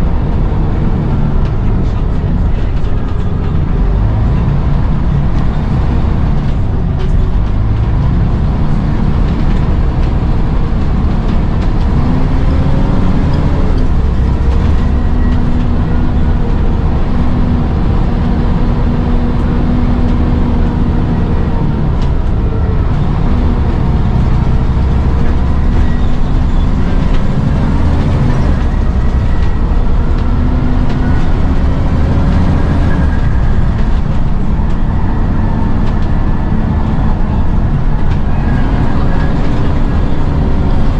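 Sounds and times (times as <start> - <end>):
bus diesel engine rumbling: 0.0 - 40.9.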